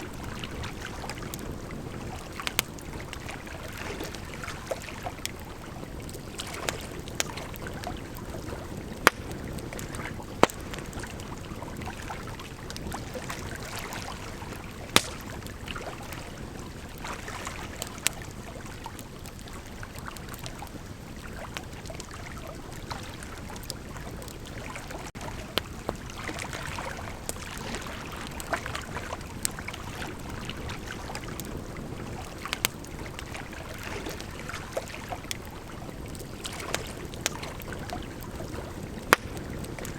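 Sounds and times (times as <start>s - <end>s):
burning wood crackling and popping: 0.0s - 39.9s
rush of bonfire flames: 0.0s - 39.9s.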